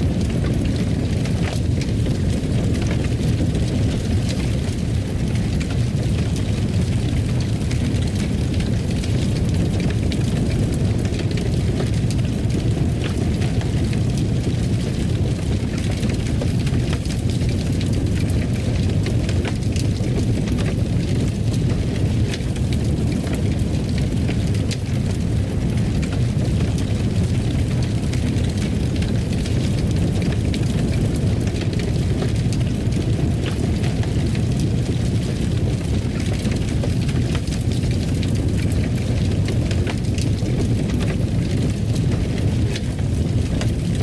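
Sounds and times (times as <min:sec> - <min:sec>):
fireplace fire crackling: 0:00.0 - 0:44.0.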